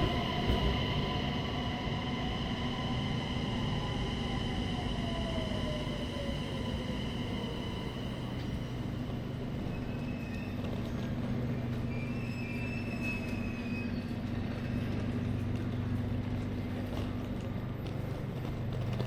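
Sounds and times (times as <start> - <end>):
train running: 0.0 - 19.0.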